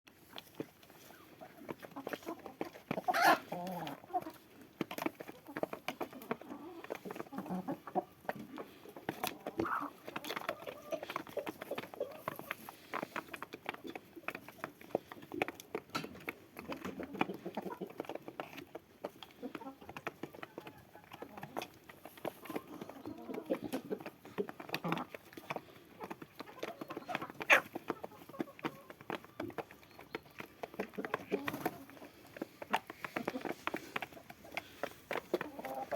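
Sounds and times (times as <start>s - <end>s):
chickens clucking: 0.2s - 35.9s.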